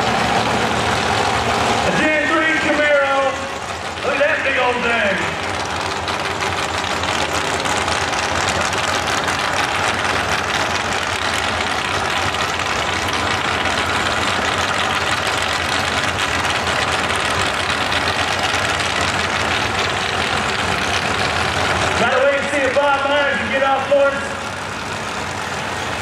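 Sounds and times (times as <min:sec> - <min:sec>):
race car engines idling: 0:00.0 - 0:26.0.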